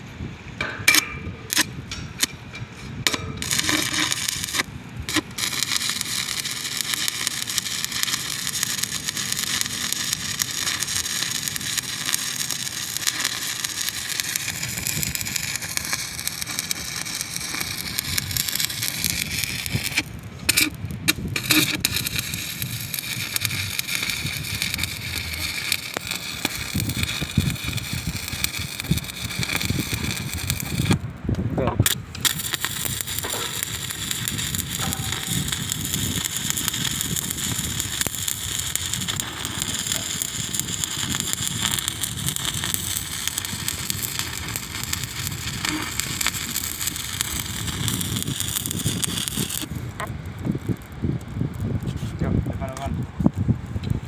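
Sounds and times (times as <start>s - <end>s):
welding arc crackling and hissing: 0.9s - 2.4s, 3.0s - 31.1s, 31.8s - 54.0s.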